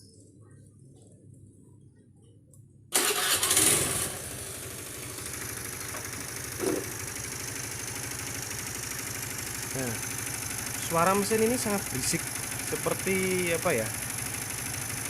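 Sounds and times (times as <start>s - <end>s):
scooter engine starting and idling: 2.9s - 15.0s.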